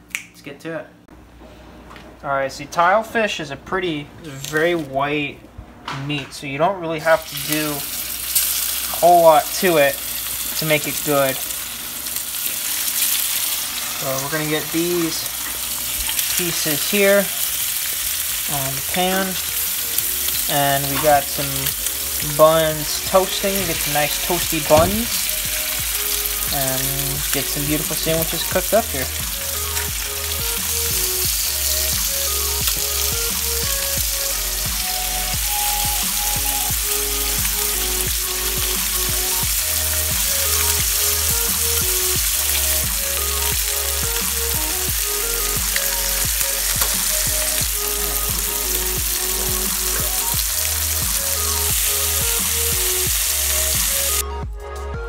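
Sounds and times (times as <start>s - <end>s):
fish sizzling in a frying pan: 7.1s - 54.2s.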